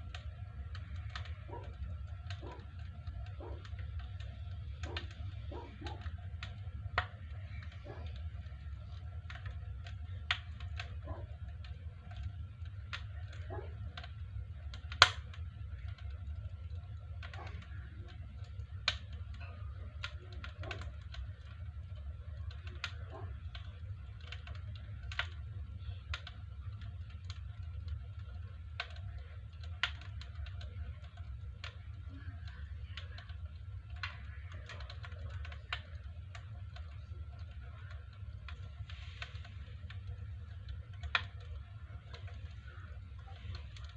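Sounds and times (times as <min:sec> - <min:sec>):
low steady hum: 0:00.0 - 0:43.9
wood fire crackling: 0:00.0 - 0:43.9.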